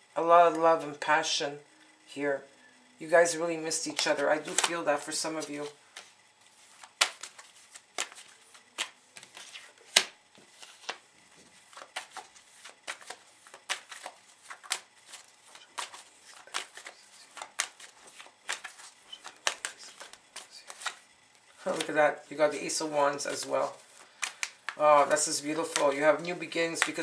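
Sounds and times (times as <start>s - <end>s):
cards being shuffled: 3.7s - 27.0s.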